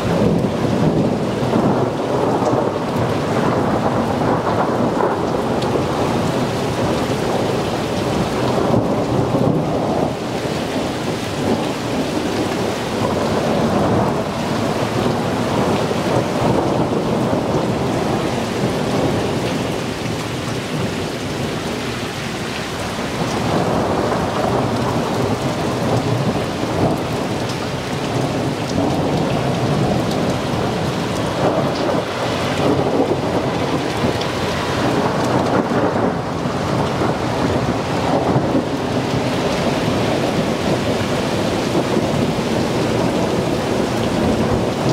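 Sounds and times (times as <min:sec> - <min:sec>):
rumbling thunder: 0:00.0 - 0:21.8, 0:22.8 - 0:44.9
heavy rain pouring: 0:00.0 - 0:44.9.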